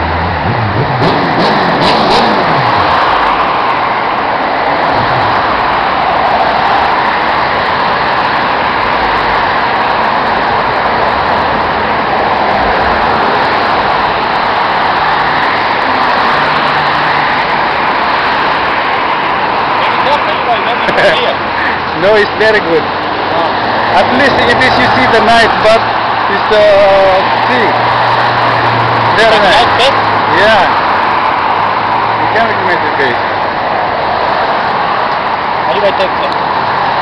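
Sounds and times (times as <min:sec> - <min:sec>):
cars passing: 0:00.0 - 0:37.0.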